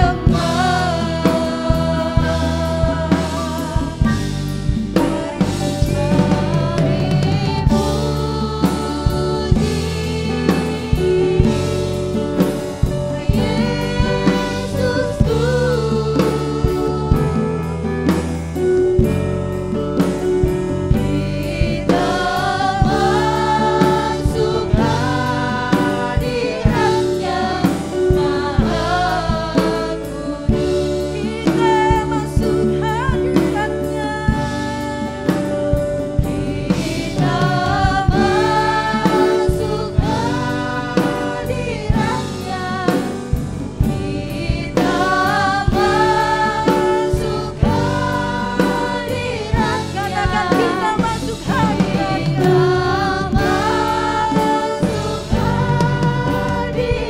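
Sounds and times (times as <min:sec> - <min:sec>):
band playing: 0:00.0 - 0:57.0
drum kit beat: 0:00.0 - 0:57.0
group of singers: 0:00.0 - 0:57.0.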